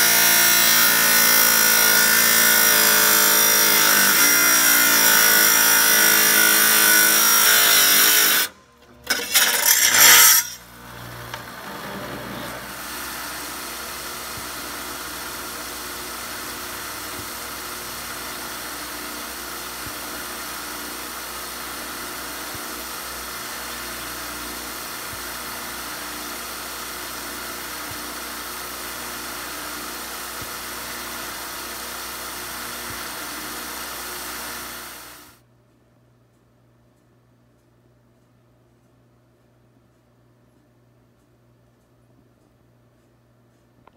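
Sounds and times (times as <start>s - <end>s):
tile saw grinding rock: 0.0s - 35.3s
saw running without load: 0.0s - 35.4s.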